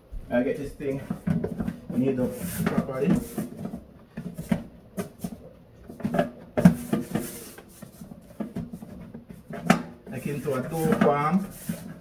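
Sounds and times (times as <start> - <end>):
hands kneading dough: 0.0 - 12.0.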